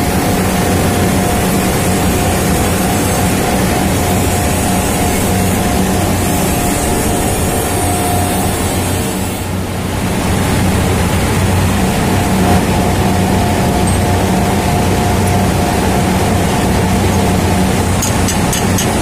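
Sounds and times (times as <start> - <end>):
heavy machinery humming: 0.0 - 19.0.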